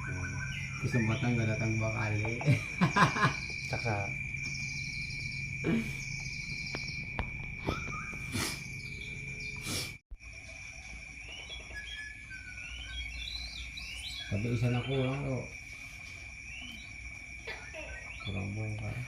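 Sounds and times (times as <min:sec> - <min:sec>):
bird chirping: 0:00.0 - 0:19.0
insects trilling: 0:00.0 - 0:19.0.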